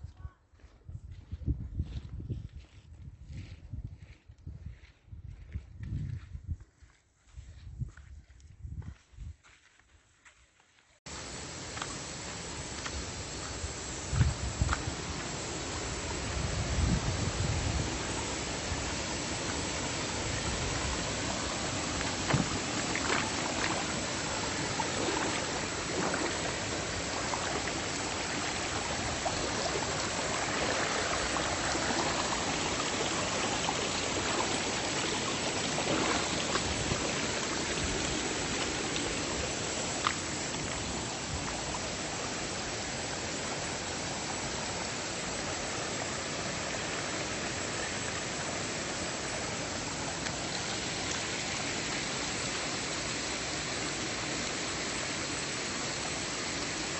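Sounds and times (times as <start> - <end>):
river water rushing over rocks: 11.1 - 56.9.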